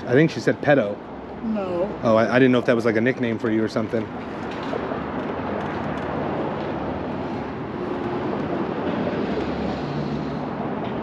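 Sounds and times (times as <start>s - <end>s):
faint engine hum: 0.0s - 11.0s
street traffic rumble: 0.0s - 11.0s.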